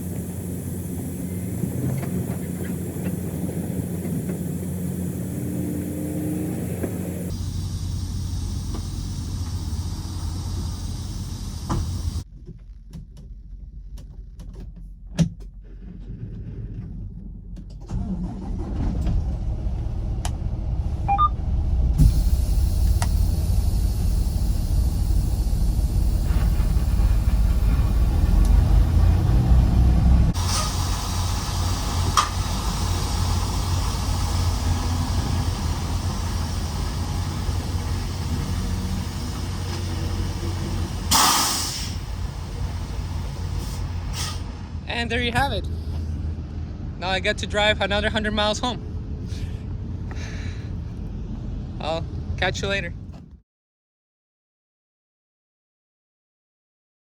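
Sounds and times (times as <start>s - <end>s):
diesel truck engine rumbling: 0.0s - 14.5s, 15.5s - 53.3s.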